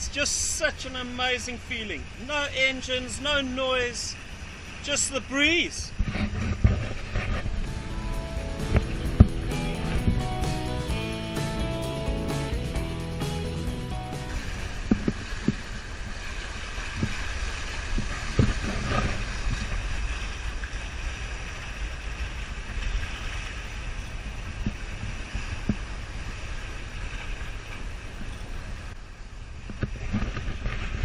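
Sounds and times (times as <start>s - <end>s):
water rushing along hulls: 0.0s - 31.0s.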